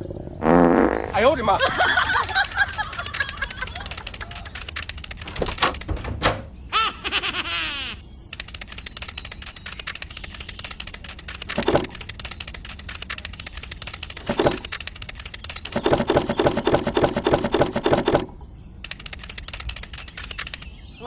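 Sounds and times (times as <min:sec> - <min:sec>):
loud pitched rattle: 0:01.6 - 0:06.5, 0:08.4 - 0:20.7
rapid even clicking: 0:01.6 - 0:06.5, 0:08.3 - 0:20.7.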